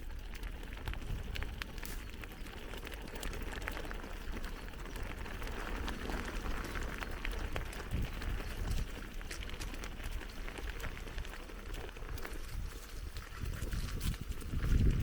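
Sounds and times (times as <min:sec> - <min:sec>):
bicycle tyres rolling on gravel: 0:00.0 - 0:15.0
bike clicks and rattles: 0:00.0 - 0:15.0.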